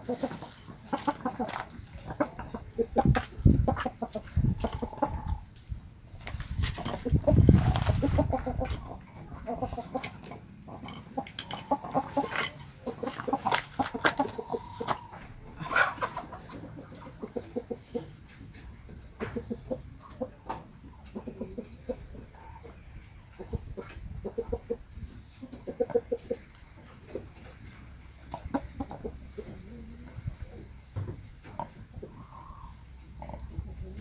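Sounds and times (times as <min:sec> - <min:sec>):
rooster clucking: 0:00.0 - 0:05.5, 0:06.5 - 0:34.0.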